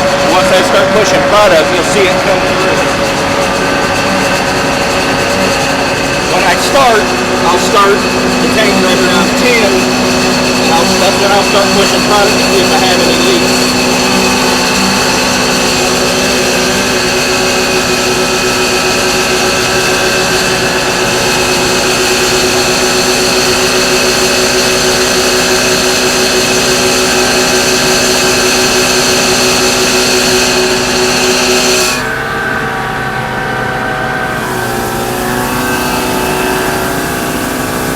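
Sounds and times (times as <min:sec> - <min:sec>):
blower whining: 0:00.0 - 0:37.9
quieter machine hum: 0:00.0 - 0:37.9.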